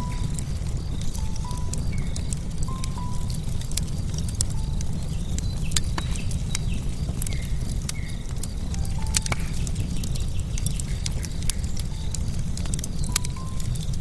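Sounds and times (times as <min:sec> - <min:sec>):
low rumble: 0:00.0 - 0:14.0
wood fire crackling: 0:00.0 - 0:14.0.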